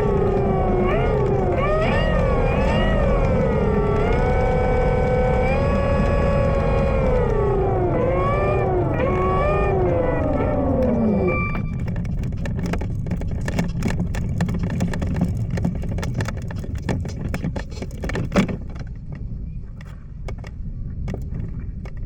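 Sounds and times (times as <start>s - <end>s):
small clicks and rattles: 0.0s - 22.0s.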